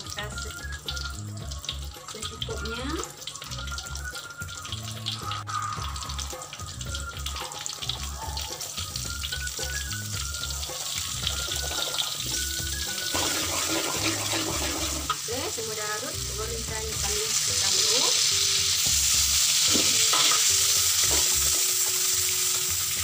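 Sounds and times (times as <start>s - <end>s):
background music: 0.0s - 23.0s
margarine sizzling in hot oil: 0.0s - 23.0s.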